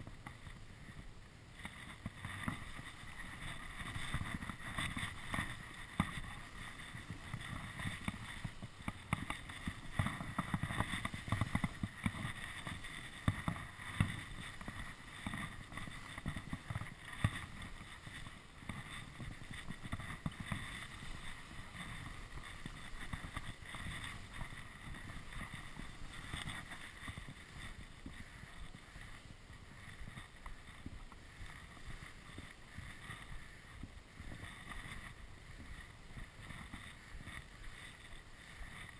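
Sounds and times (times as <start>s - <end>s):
skis scraping over snow: 0.0s - 38.9s.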